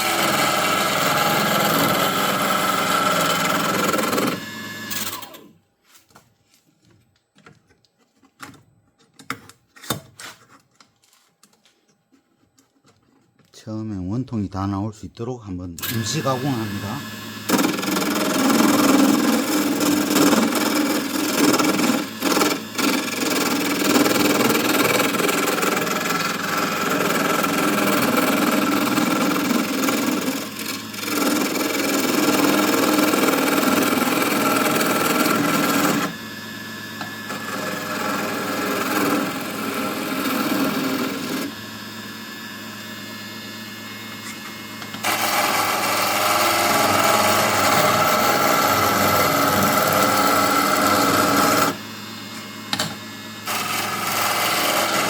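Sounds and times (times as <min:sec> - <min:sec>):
gouge cutting spinning wood: 0:00.0 - 0:05.5, 0:15.8 - 0:55.0
wood lathe running: 0:00.0 - 0:05.6, 0:15.8 - 0:55.0.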